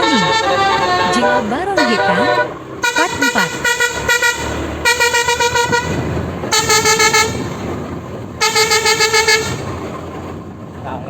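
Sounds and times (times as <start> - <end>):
pulsing bus air horn: 0.0 - 10.0.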